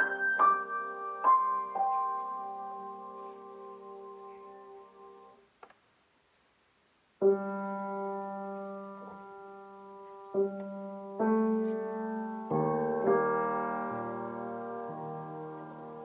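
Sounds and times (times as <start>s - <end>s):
piano chords: 0.0s - 5.4s, 7.2s - 16.0s.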